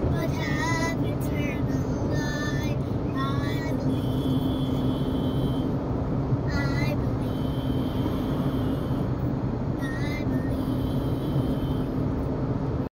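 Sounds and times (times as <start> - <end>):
car road and engine drone: 0.0 - 12.9.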